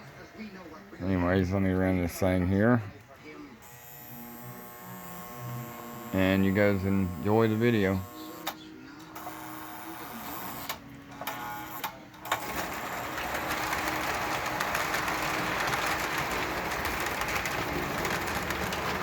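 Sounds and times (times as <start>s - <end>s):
faint electric hum: 0.0s - 19.0s
toy train motor and wheels running: 3.6s - 19.0s.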